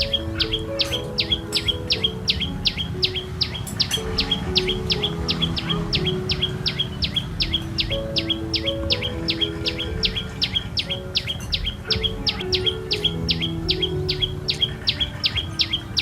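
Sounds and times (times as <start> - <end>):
background music with low notes: 0.0 - 16.0
bird chirping: 0.0 - 16.0.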